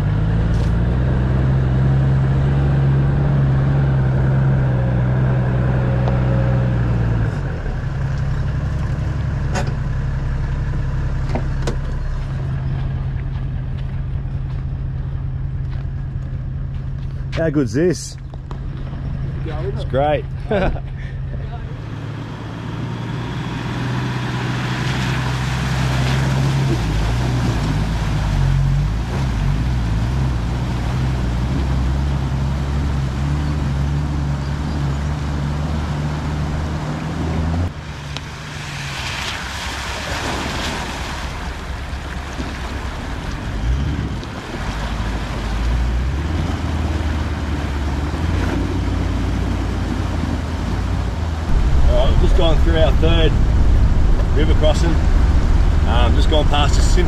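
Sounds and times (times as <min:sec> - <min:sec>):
vehicle engine running: 0:00.0 - 0:38.5, 0:41.3 - 0:57.0.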